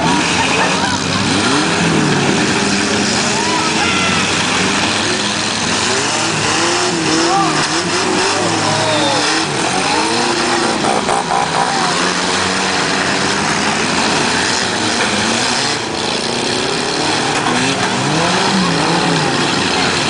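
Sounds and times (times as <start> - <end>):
car engines revving hard: 0.0 - 20.0.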